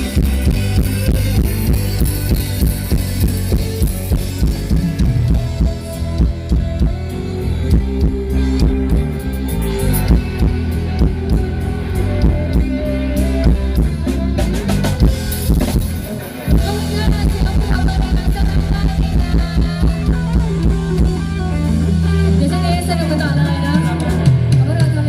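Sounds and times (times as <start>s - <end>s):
drum kit beating: 0.0s - 25.0s
live rock band playing: 0.0s - 25.0s.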